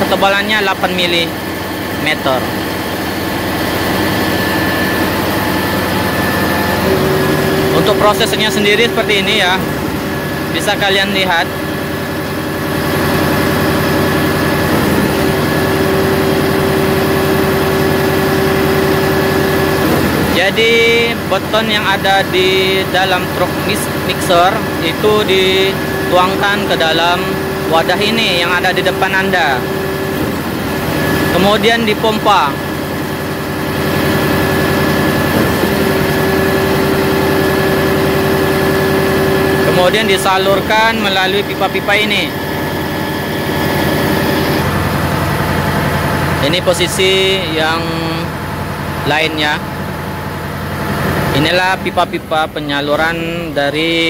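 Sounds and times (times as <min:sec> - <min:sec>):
loud engine drone: 0:00.0 - 0:54.0
steady machine hum: 0:00.0 - 0:54.0.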